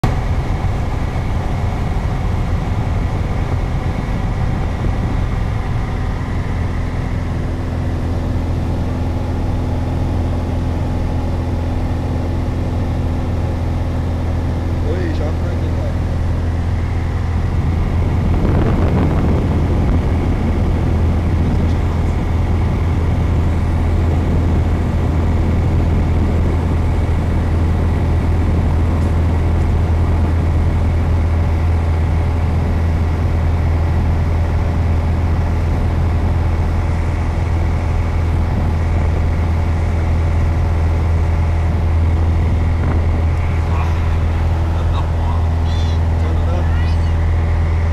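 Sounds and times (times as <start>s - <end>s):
light aircraft engine droning: 0.0s - 47.9s.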